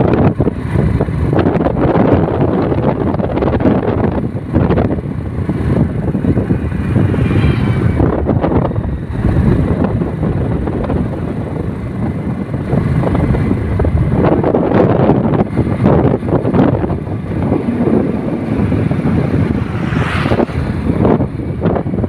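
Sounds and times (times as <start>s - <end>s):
road vehicle rumble: 0.0s - 22.0s
wind buffeting the microphone: 0.0s - 22.0s.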